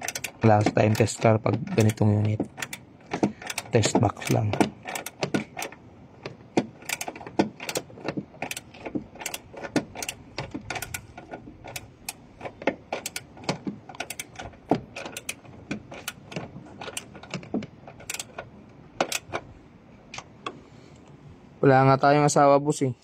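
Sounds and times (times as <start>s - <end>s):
tools and parts clicking: 0.0s - 19.5s.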